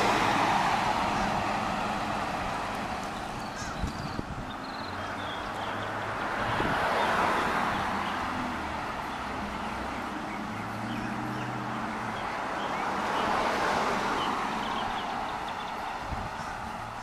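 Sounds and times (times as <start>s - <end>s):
car tyre and road noise: 0.0s - 17.0s.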